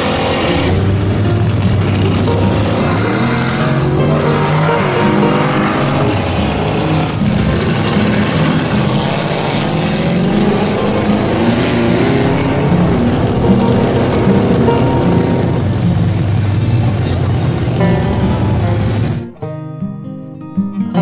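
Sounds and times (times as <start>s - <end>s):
mud and water spraying: 0.0s - 19.3s
truck engine revving hard: 0.0s - 19.4s.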